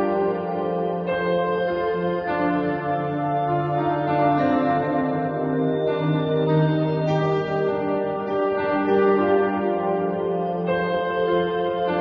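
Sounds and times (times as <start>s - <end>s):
ambient music with held notes: 0.0s - 12.0s.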